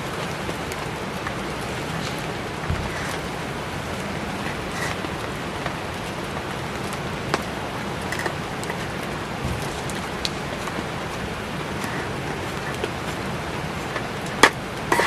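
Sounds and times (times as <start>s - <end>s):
campfire crackles: 0.0s - 15.0s
heavy rain: 0.0s - 15.0s.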